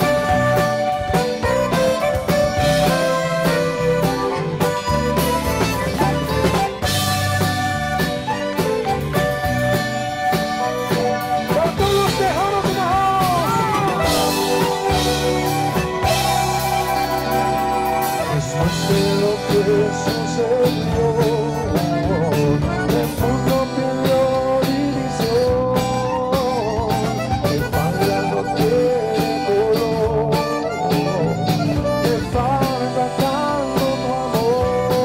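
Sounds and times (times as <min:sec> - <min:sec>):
accordion melody: 0:00.0 - 0:35.0
bass: 0:00.0 - 0:35.0
steady drum beat: 0:00.0 - 0:35.0.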